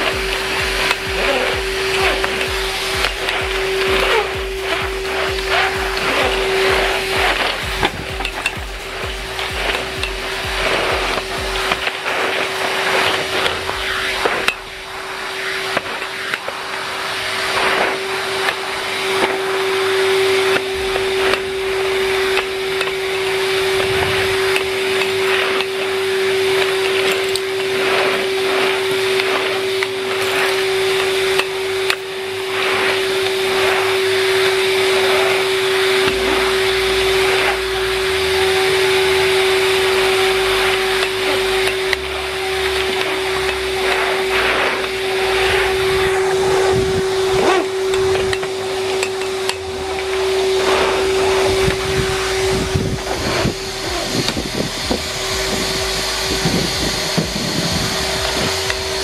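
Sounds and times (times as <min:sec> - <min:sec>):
nozzle scraping on concrete: 0:00.0 - 0:59.0
vacuum cleaner motor whine: 0:00.0 - 0:59.0.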